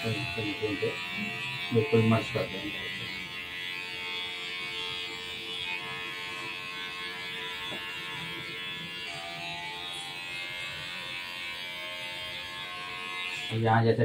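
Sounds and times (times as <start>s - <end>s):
electric hair clipper buzzing: 0.0s - 14.0s.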